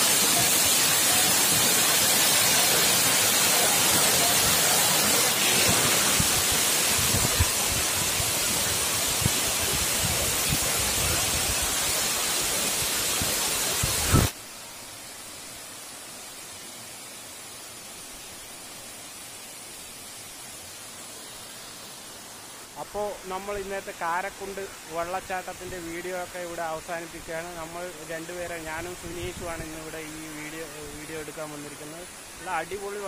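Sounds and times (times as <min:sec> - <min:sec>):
waterfall rushing hiss: 0:00.0 - 0:33.0.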